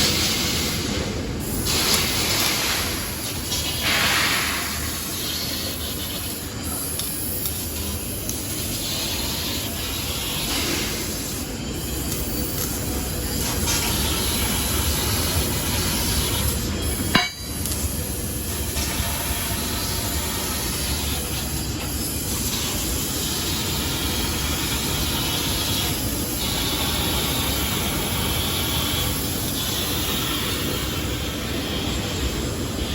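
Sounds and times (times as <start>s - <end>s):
laser cutting machine running: 0.0s - 32.9s.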